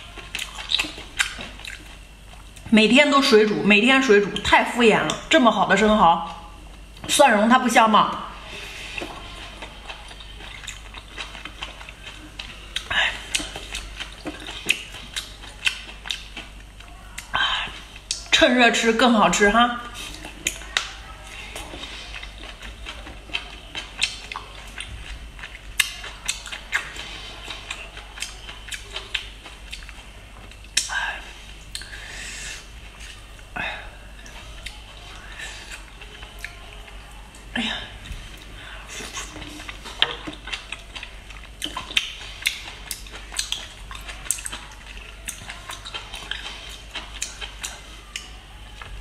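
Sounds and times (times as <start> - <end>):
chewing oysters: 0.0 - 2.7, 8.1 - 18.4, 19.8 - 49.0.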